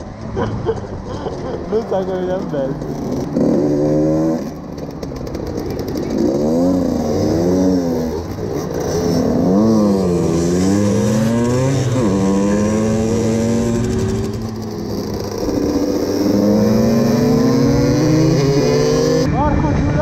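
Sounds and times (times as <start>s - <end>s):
small motorcycle engines revving: 0.0s - 20.0s.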